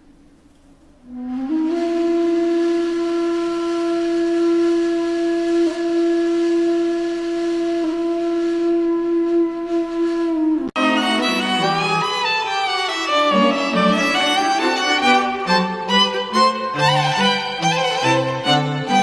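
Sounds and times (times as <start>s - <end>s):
long wind instrument note: 1.0s - 19.0s.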